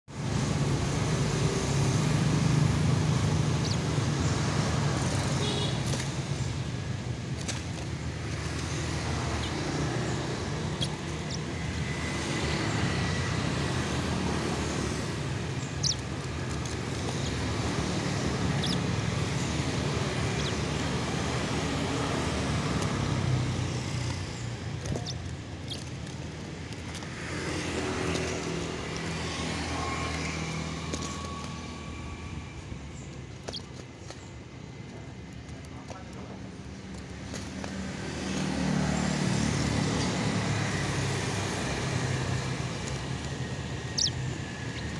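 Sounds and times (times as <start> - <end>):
road traffic rumble: 0.1 - 44.9.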